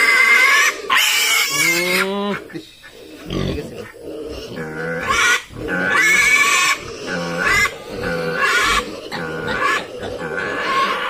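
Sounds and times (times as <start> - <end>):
piglet squealing: 0.0 - 11.0.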